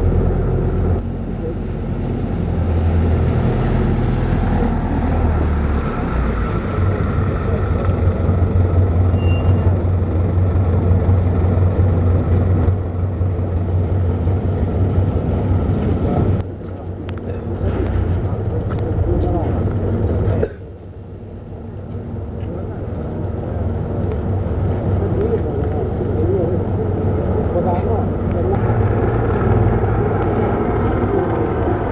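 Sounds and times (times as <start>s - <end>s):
engine running: 0.0s - 31.9s.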